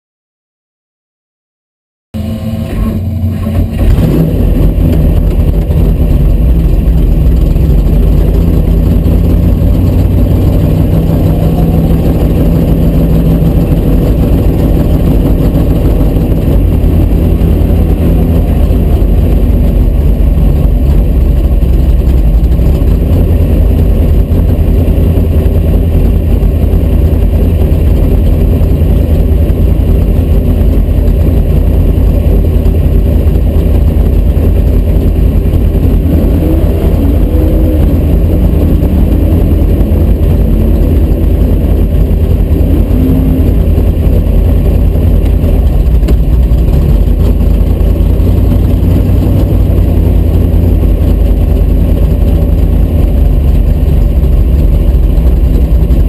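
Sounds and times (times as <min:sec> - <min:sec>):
car engine running at low revs: 0:02.2 - 0:56.0.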